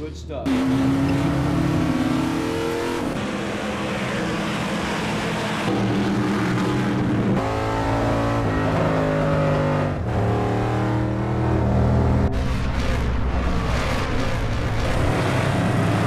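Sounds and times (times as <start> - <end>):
race car engine at high revs: 0.4 - 16.0.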